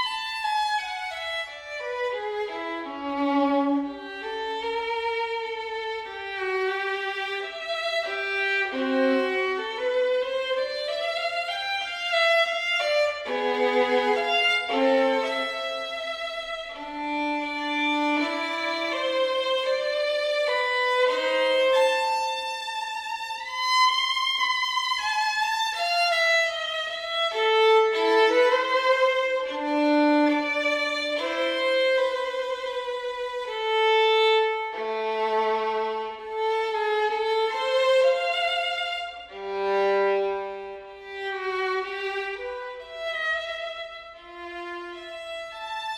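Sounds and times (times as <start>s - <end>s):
slow violin melody: 0.0s - 45.9s.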